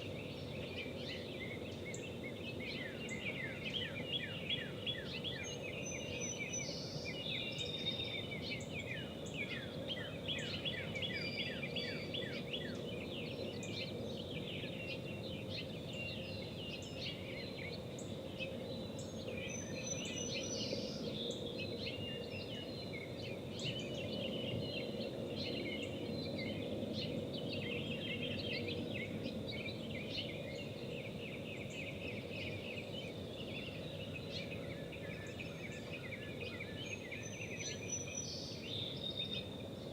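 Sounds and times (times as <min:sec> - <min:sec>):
outdoor background noise: 0:00.0 - 0:39.9
songbirds chirping: 0:00.0 - 0:39.9.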